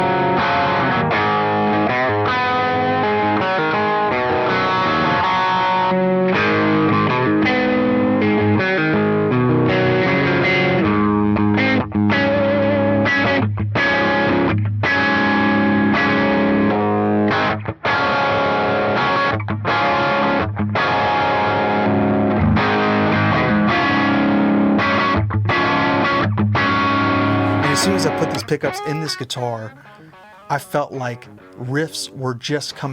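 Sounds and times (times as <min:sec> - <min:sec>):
distorted electric guitar riffs: 0:00.0 - 0:32.2.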